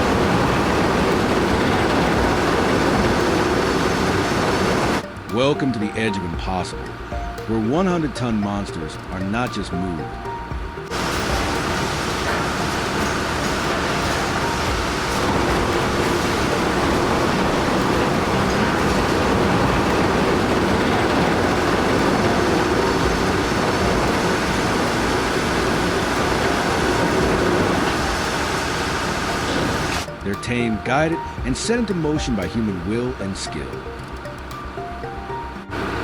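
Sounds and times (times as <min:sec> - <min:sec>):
heavy diesel machinery running: 0:00.0 - 0:05.6, 0:06.2 - 0:36.0.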